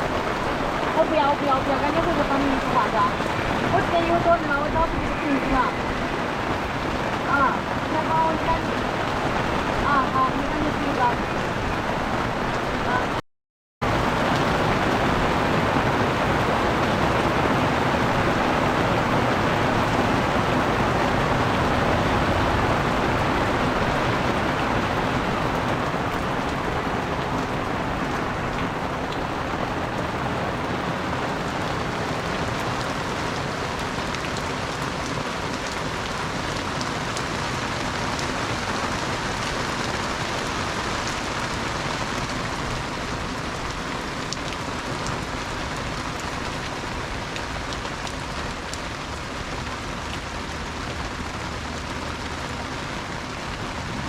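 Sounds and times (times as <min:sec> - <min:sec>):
heavy rain falling: 0:00.0 - 0:13.2, 0:13.8 - 0:54.0.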